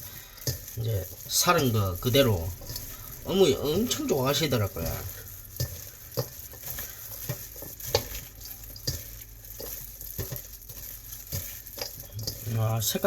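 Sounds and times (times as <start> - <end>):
wet squishing of mixing food: 0.0 - 13.0.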